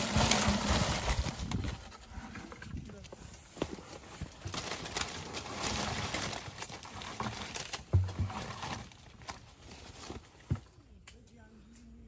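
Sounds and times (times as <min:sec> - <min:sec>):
fruit tumbling into plastic crate: 0:00.0 - 0:10.8.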